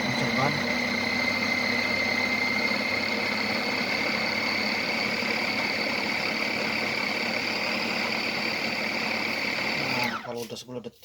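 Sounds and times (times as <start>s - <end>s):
food chopper motor running: 0.0s - 10.5s.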